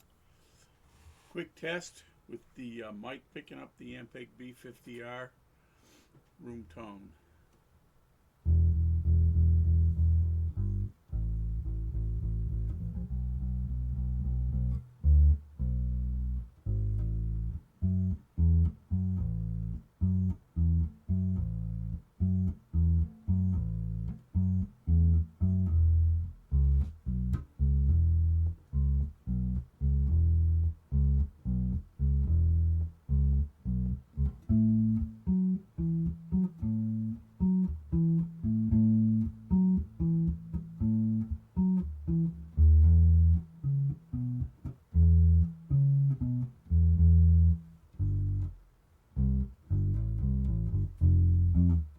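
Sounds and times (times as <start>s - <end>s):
bass guitar short notes: 8.4s - 48.6s, 49.2s - 51.9s.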